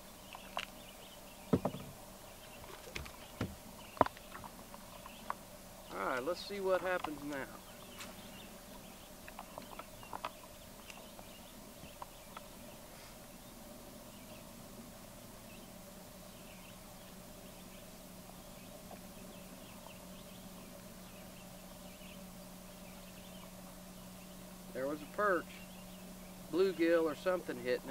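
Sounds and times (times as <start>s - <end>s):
faint high wildlife chirps: 0.0s - 27.9s
steady low hum: 0.0s - 27.9s.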